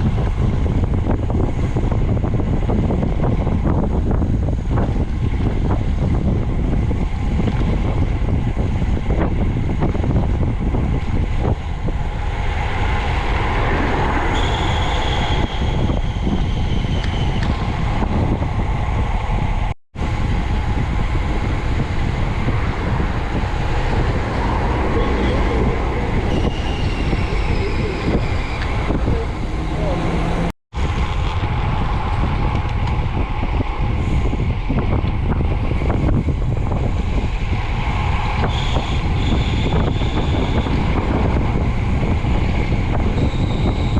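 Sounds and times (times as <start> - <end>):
traffic passing whines: 0.0 - 43.9
wind buffeting microphone: 0.0 - 43.9.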